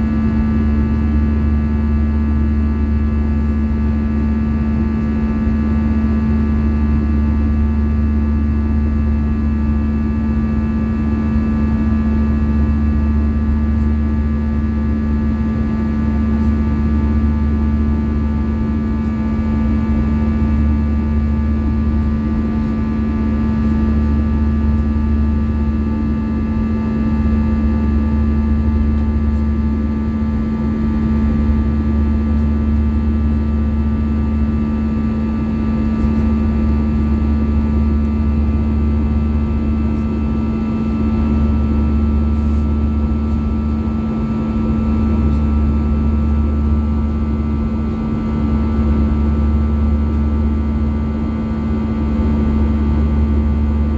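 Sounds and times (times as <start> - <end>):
airplane cabin engine hum: 0.0 - 53.9.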